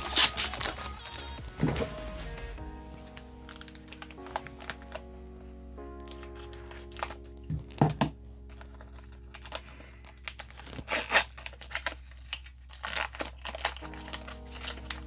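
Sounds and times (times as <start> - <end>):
foil wrapper crinkling and tearing: 0.0 - 1.4, 3.0 - 5.1, 5.9 - 15.0.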